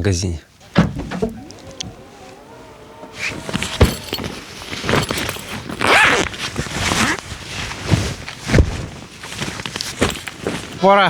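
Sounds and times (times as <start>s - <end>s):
rustling and knocking handling noises: 0.6s - 11.0s.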